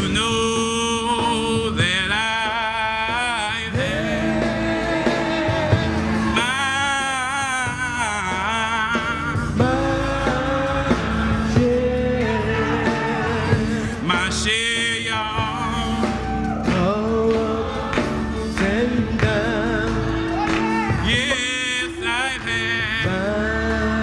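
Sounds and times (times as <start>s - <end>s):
keyboard accompaniment: 0.0s - 24.0s
lead voice singing with vibrato: 0.0s - 24.0s
men's gospel choir singing: 0.0s - 24.0s
steady bass: 0.0s - 24.0s.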